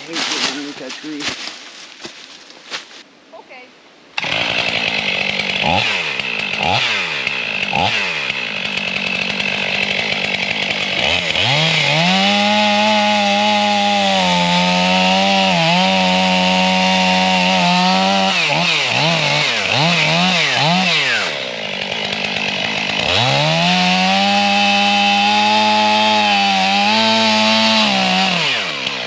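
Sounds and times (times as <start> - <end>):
chainsaw revving: 4.2 - 29.0.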